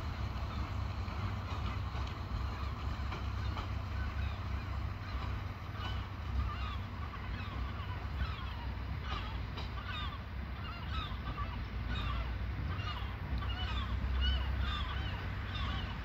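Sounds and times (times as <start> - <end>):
distant train rumble: 0.0 - 16.0
flock of birds calling: 2.4 - 16.0.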